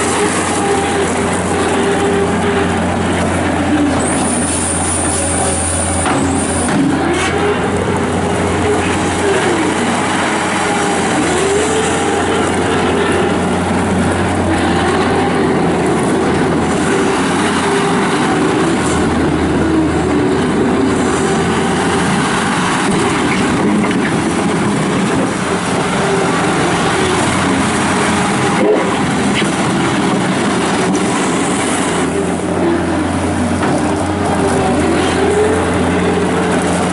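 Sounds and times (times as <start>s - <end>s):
skid steer loader engine and hydraulics: 0.0s - 36.9s.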